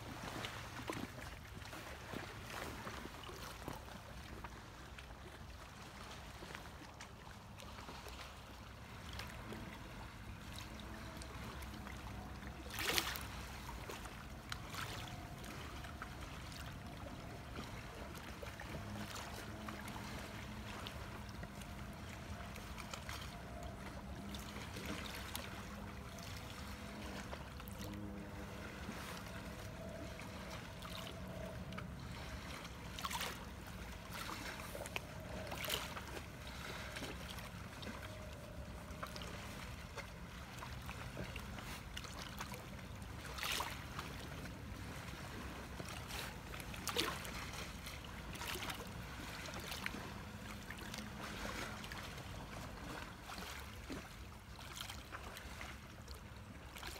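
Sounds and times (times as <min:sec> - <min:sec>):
small waves lapping: 0:00.0 - 0:56.9
water splashes: 0:00.0 - 0:56.9.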